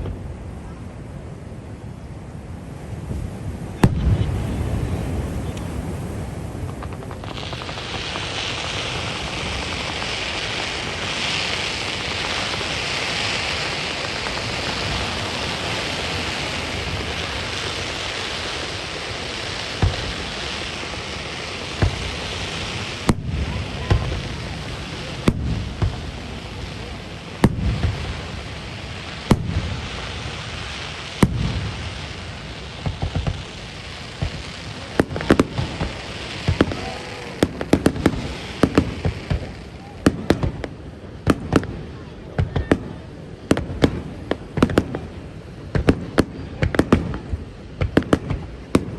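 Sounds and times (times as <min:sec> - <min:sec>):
fireworks hissing: 0:02.7 - 0:48.9
fireworks bangs: 0:02.8 - 0:48.9.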